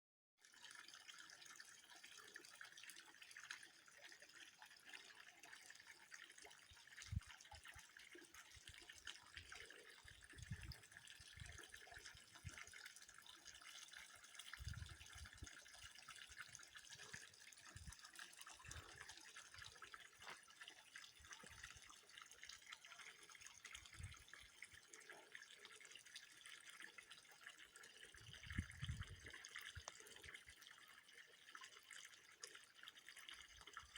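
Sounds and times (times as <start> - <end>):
faint water trickle: 0.4 - 33.9
small drips and ticks: 0.4 - 33.9.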